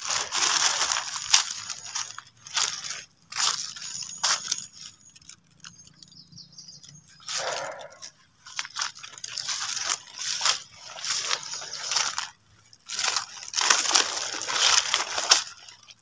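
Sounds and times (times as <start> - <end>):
footsteps crunching on dry leaves: 0.0 - 16.0
rustling through undergrowth: 0.0 - 16.0.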